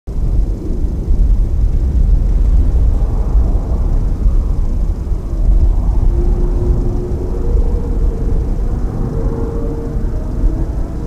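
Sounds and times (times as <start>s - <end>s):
faint steady hum: 0.1s - 11.0s
jet engines low rumble: 0.1s - 11.0s.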